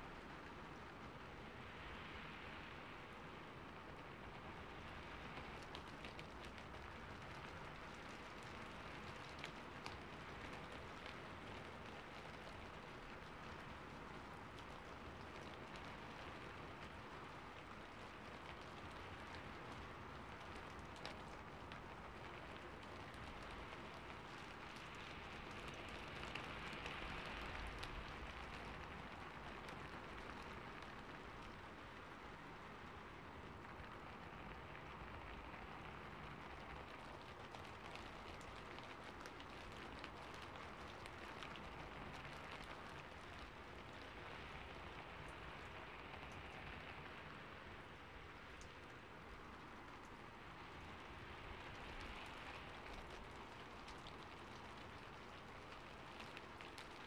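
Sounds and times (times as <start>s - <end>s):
rain drop ticks: 0.0s - 57.0s
rain falling on a rooftop: 0.0s - 57.0s.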